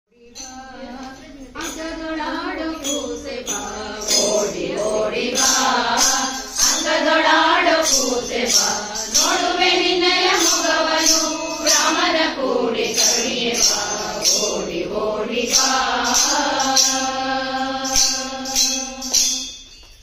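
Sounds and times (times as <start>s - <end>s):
women singing together: 0.1s - 19.6s
percussion beat: 0.2s - 20.0s.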